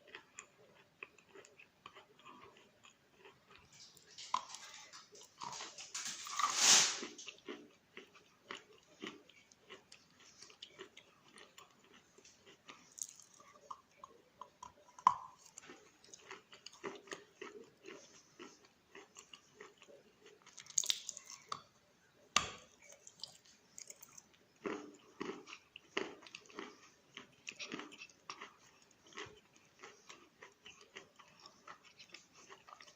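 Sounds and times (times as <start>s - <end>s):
chewing and crunching chalk: 0.0s - 21.7s, 22.4s - 32.9s.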